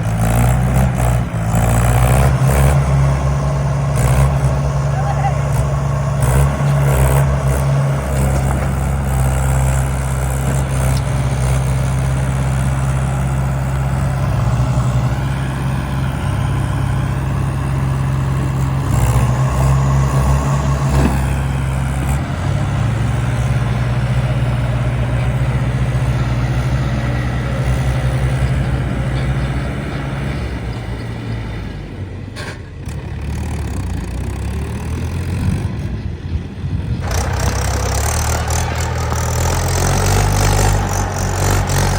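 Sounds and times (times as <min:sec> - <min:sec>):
heavy diesel machinery engine: 0:00.0 - 0:41.9.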